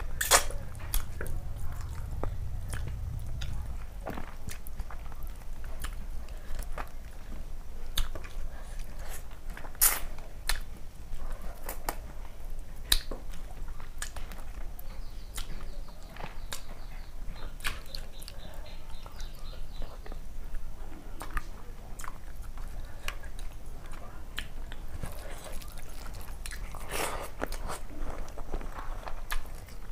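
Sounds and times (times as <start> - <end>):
chewing with mouth clicks: 0.0 - 29.9.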